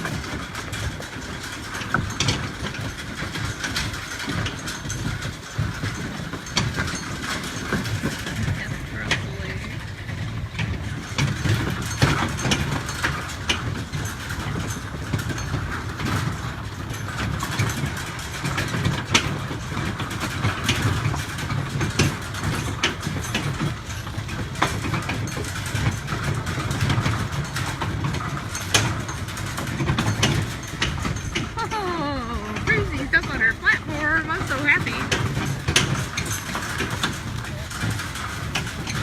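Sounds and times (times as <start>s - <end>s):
wagon rattling and knocking: 0.0s - 39.0s
vehicle engine running: 4.4s - 39.0s.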